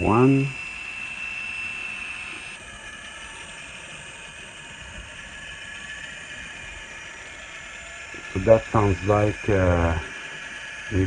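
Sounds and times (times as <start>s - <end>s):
high steady whine: 0.0s - 11.0s
model locomotive engine idling: 0.0s - 11.0s.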